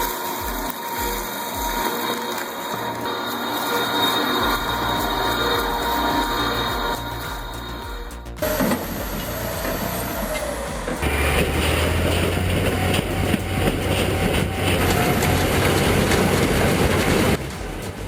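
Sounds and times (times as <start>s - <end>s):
bulldozer diesel engine: 0.0s - 18.0s.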